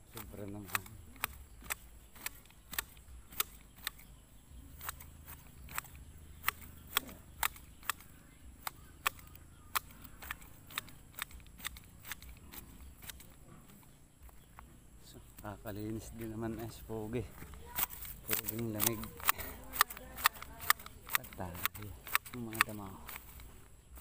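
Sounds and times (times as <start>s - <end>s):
grass shears snipping: 0.0s - 24.0s.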